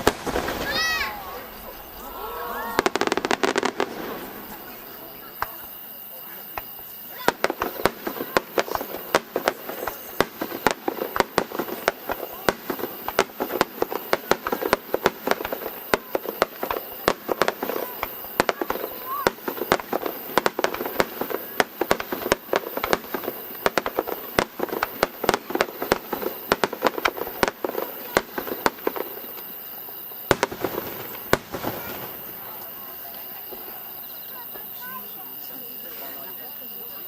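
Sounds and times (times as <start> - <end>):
loud firework booms: 0.0 - 34.0
fireworks bangs and crackles: 0.0 - 37.0.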